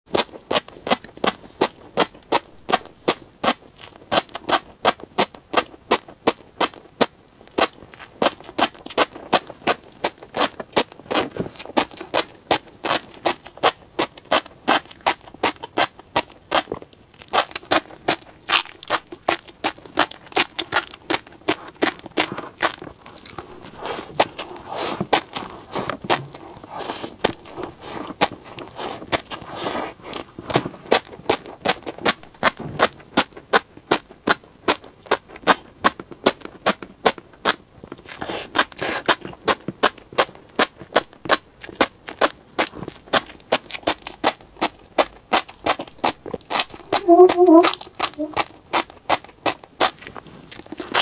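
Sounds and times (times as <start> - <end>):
fish roe popping while chewing: 0.1 - 51.0.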